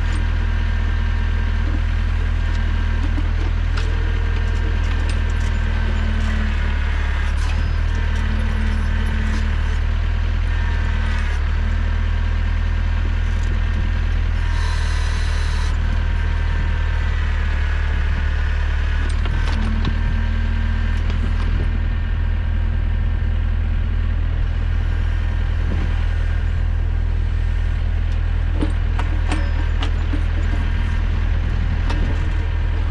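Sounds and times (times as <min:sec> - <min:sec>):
hydraulics whine: 0:00.0 - 0:32.9
tractor engine running under load: 0:00.0 - 0:32.9.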